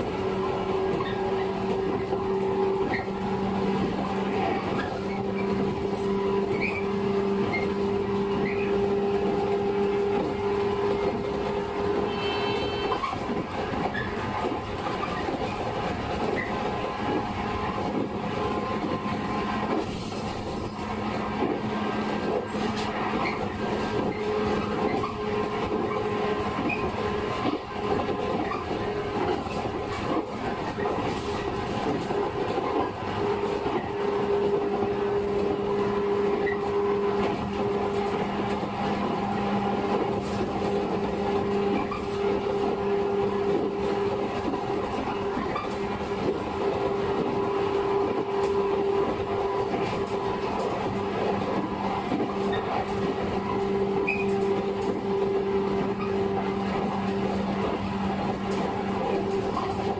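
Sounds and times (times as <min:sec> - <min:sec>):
wheel-on-rail rumble: 0:00.0 - 0:59.9.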